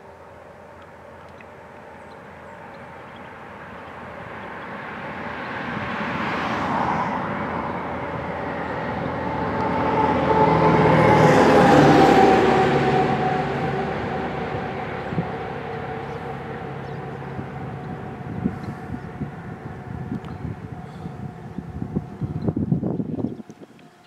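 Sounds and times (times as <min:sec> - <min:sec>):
vehicle passing with mechanical drone: 0:00.0 - 0:24.0.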